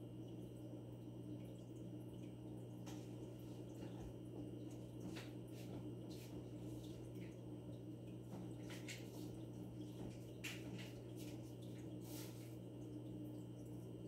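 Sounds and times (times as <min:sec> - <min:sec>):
fish tank pump humming: 0:00.0 - 0:14.0
water drips and splashes: 0:00.0 - 0:14.0.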